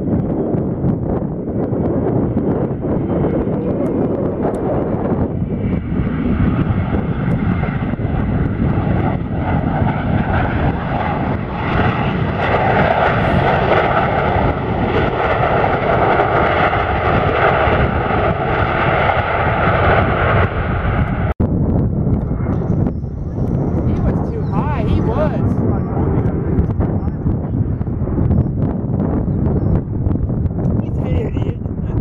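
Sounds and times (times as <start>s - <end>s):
jet engines rumbling and whining: 0.0s - 32.0s.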